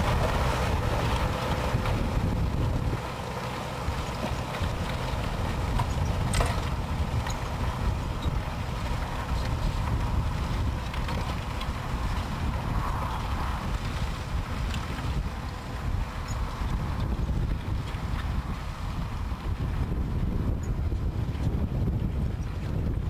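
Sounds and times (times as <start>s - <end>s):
tractor diesel engine rumbling: 0.0s - 23.0s
wind buffeting microphone: 0.0s - 23.0s.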